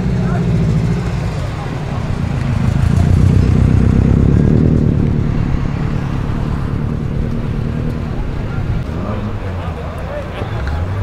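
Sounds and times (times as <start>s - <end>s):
loud car engine and exhaust: 0.0s - 11.0s.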